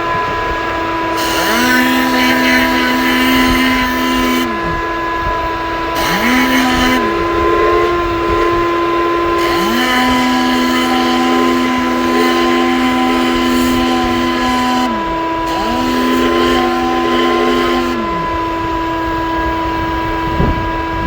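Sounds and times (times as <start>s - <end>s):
motor whining and hissing: 0.0s - 21.0s.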